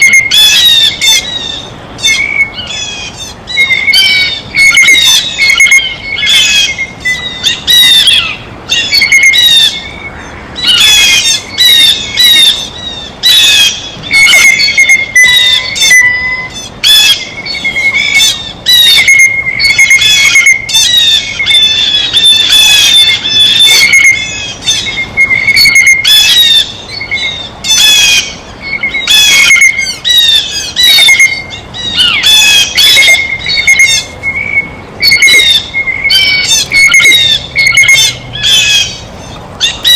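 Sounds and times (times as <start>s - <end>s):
blue jays squawking: 0.0s - 39.9s.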